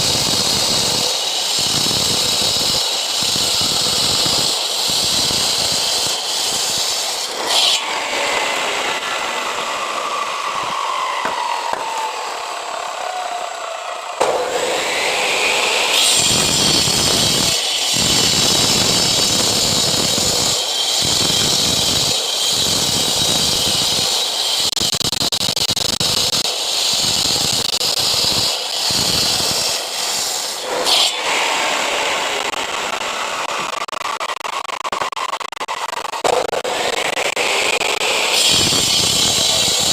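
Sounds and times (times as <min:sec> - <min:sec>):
grinder cutting concrete: 0:00.0 - 0:39.9.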